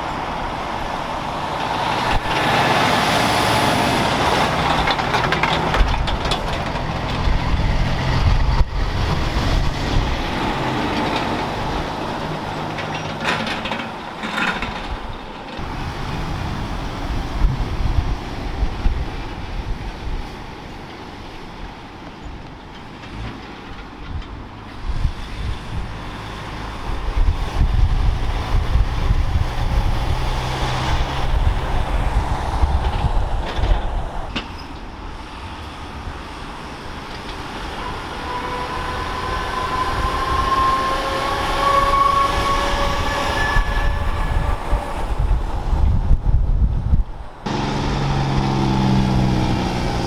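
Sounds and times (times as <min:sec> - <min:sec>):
heavy vehicle engine rumble: 0:00.0 - 0:50.0.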